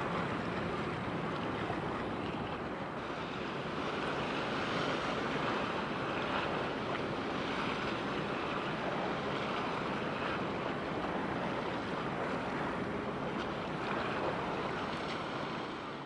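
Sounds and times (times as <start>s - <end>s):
water washing at shoreline: 0.0s - 16.0s.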